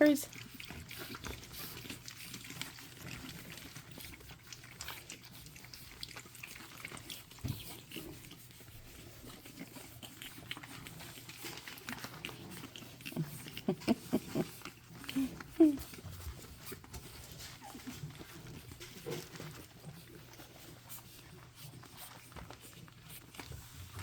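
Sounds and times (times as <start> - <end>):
puppies making small noises: 0.0 - 24.0.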